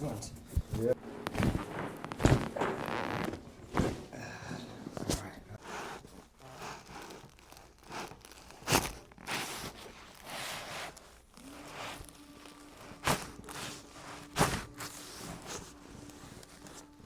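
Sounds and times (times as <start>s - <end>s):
clothing rustling on table: 0.1s - 17.0s.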